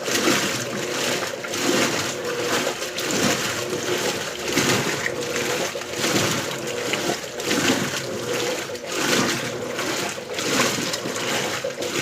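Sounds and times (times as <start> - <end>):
washing machine water sloshing: 0.0 - 12.0.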